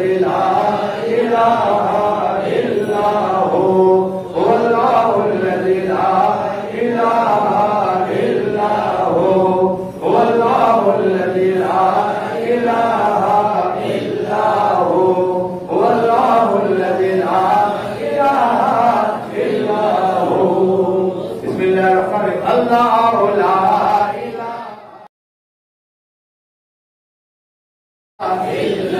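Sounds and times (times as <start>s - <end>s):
man chanting melodic phrases: 0.0s - 24.9s.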